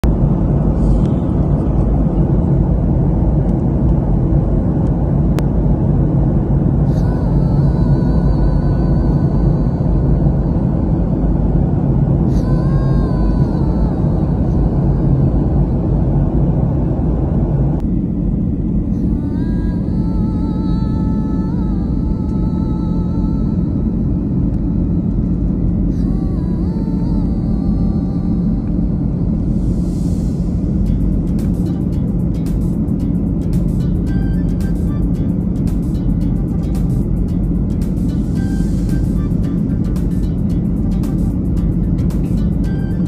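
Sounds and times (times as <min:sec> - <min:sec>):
jet cabin engine rumble: 0:00.0 - 0:43.0.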